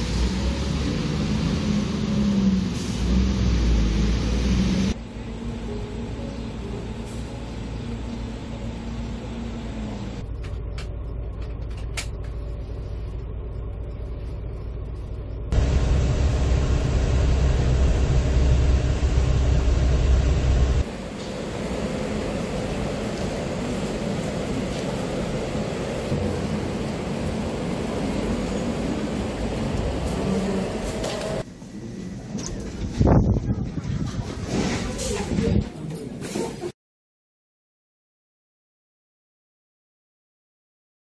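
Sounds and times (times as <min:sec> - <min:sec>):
bus driving on wet road: 0:00.0 - 0:36.7
street traffic engine hum: 0:00.0 - 0:36.7.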